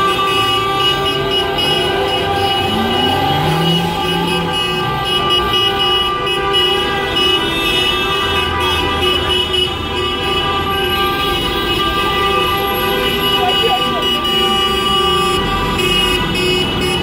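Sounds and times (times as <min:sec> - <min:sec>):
many car horns honking: 0:00.0 - 0:17.0.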